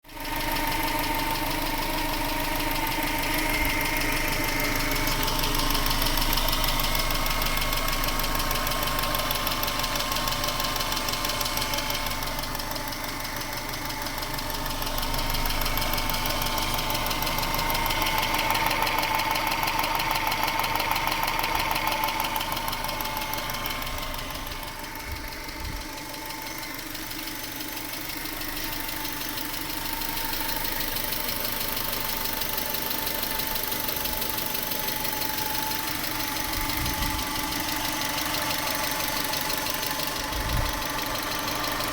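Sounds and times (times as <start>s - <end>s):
car engine idling: 0.0s - 41.9s
rapid engine ticking: 0.0s - 41.9s.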